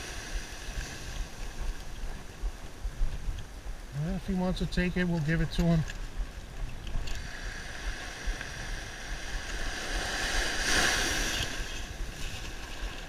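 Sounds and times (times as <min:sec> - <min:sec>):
ocean surf washing: 0:00.0 - 0:13.0.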